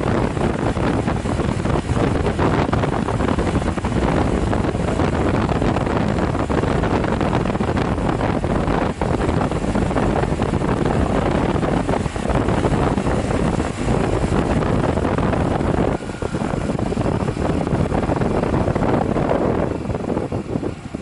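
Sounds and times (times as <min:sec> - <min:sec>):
motorcycle engine running: 0:00.0 - 0:21.0
wind rush over microphone: 0:00.0 - 0:21.0.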